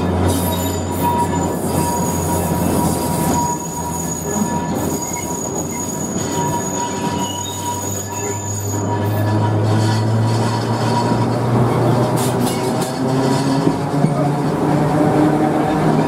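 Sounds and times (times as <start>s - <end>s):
electric tram running on rails: 0.0s - 16.0s.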